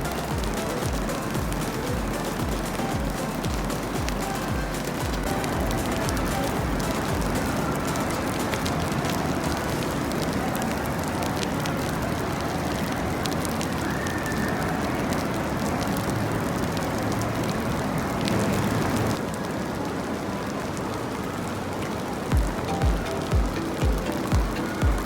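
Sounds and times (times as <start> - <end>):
rain patter: 0.0 - 25.0.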